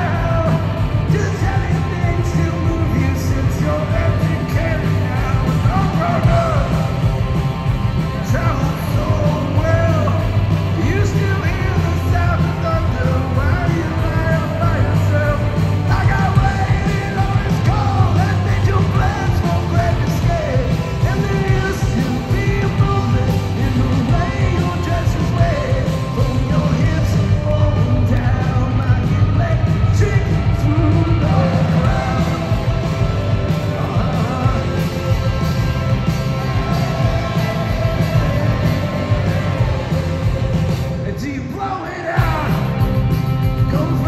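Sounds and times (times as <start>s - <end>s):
lead singer: 0.0s - 44.0s
live rock band: 0.0s - 44.0s.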